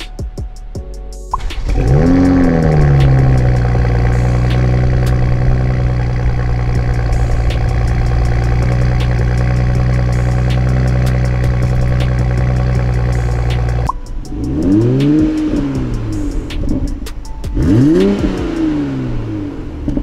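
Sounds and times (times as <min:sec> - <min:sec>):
car engine idling: 0:01.3 - 0:20.0.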